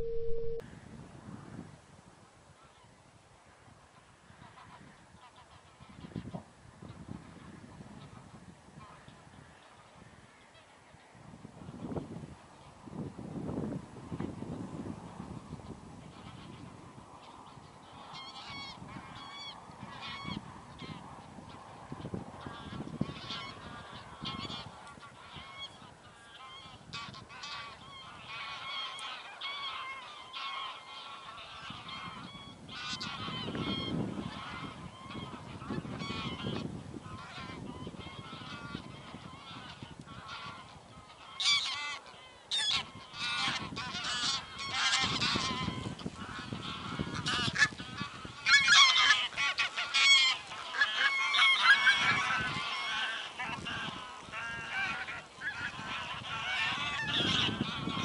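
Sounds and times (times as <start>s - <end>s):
flock of geese honking: 3.9s - 13.0s, 14.1s - 58.0s.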